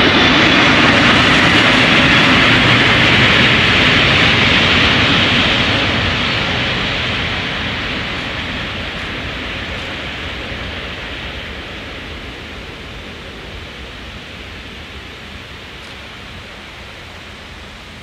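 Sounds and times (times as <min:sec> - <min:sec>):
electric locomotive rushing past: 0:00.0 - 0:18.0.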